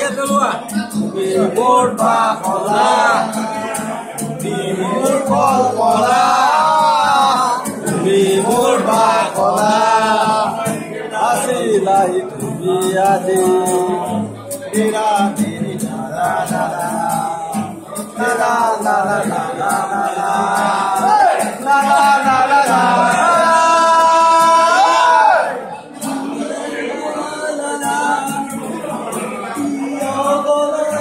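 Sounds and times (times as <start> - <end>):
men singing through a pa: 0.0 - 31.0.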